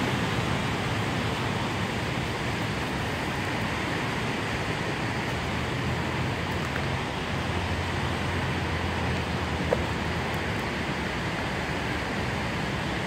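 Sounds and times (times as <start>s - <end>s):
river rushing: 0.0s - 13.0s
water pouring over dam: 0.0s - 13.0s.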